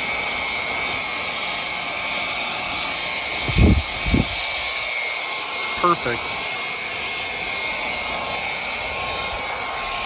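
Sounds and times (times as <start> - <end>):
handheld vacuum motor whining: 0.0 - 10.0.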